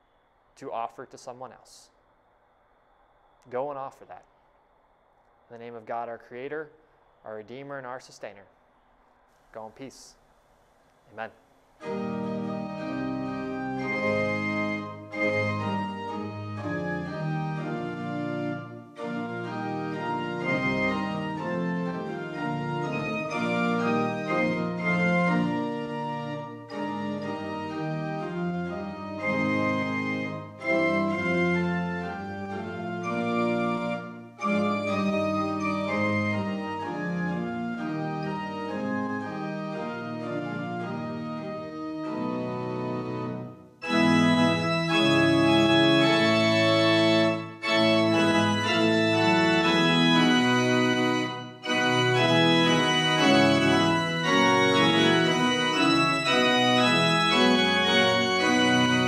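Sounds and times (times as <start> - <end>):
organ playing chords: 3.5 - 4.2, 11.1 - 59.0.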